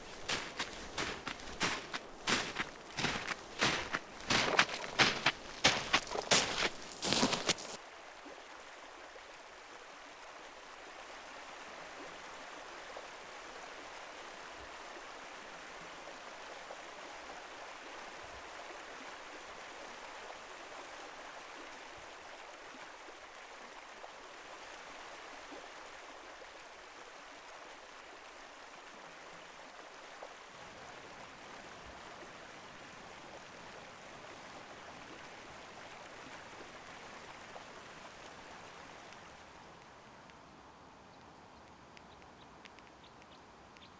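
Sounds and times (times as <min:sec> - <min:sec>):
flowing water rushing: 0:00.0 - 0:40.3.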